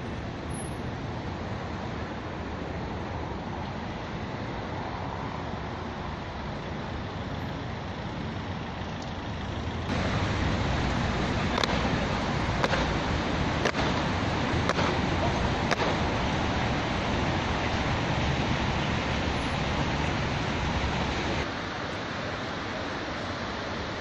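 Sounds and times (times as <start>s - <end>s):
city traffic hum: 0.0s - 24.0s.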